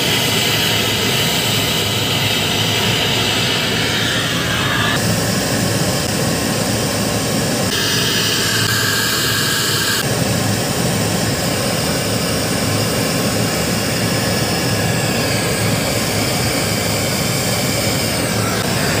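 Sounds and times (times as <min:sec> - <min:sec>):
brazing torch flame roaring: 0:00.0 - 0:09.0, 0:09.6 - 0:19.0.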